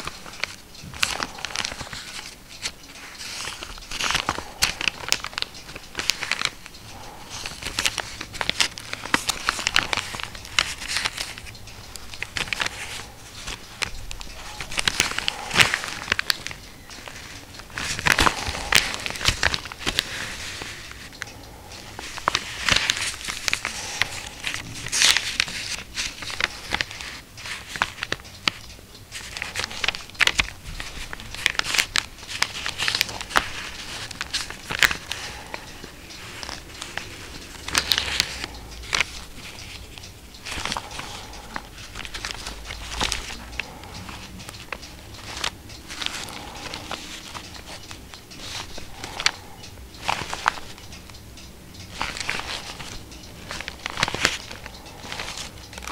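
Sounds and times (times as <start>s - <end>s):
old paper pages crackling: 0.0s - 51.2s, 51.9s - 55.9s.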